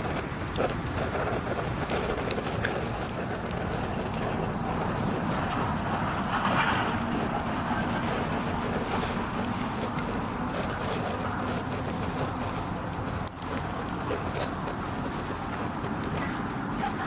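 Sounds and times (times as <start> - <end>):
campfire rushing rumble: 0.0 - 17.0
fire crackles and pops: 0.0 - 17.0.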